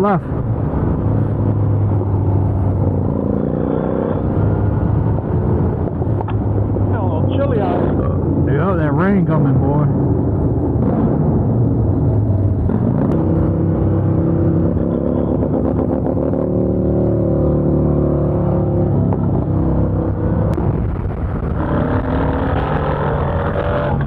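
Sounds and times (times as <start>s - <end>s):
wind rumble: 0.0s - 24.0s.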